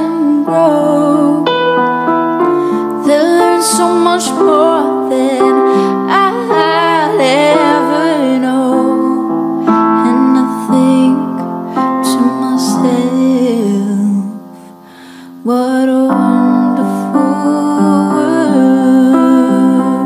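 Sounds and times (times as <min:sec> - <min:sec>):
slow piano song: 0:00.0 - 0:20.0.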